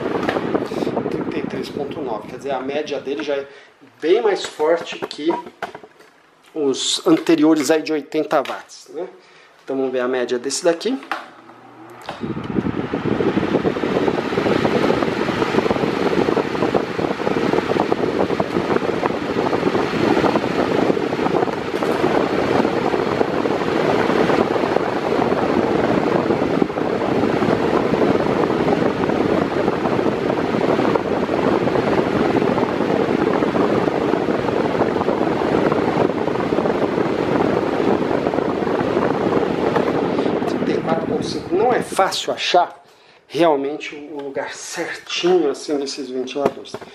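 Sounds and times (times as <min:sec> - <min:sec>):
electric fan running: 0:00.0 - 0:46.9.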